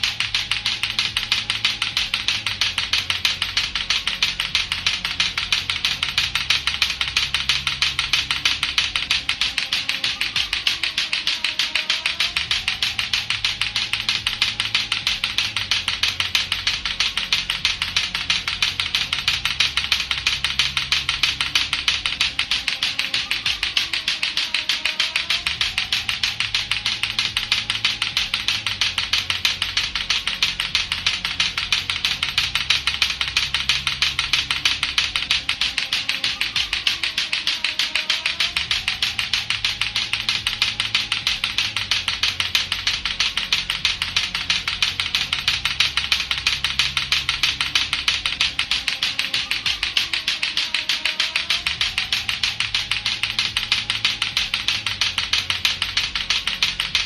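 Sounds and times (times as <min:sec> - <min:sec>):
background music with bass line: 0:00.0 - 0:57.0
clacker toy balls clacking: 0:00.0 - 0:57.0.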